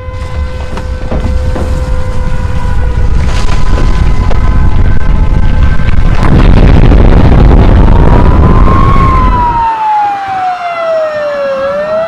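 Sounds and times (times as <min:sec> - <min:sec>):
loud noisy rumble: 0:00.0 - 0:09.7
emergency vehicle siren wailing: 0:00.0 - 0:12.0.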